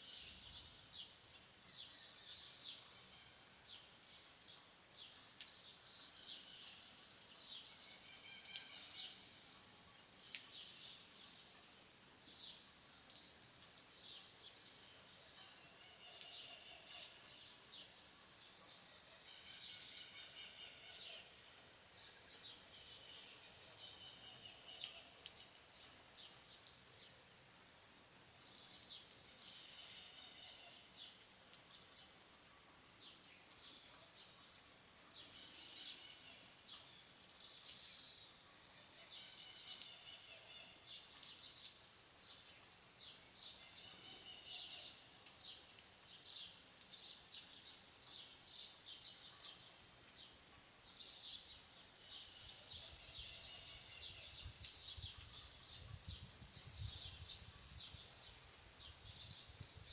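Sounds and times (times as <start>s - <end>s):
light rain drips: 0.0s - 59.9s.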